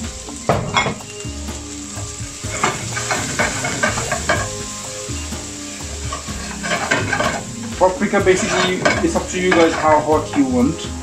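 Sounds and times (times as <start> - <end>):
sauce sizzling in a frying pan: 0.0 - 11.0.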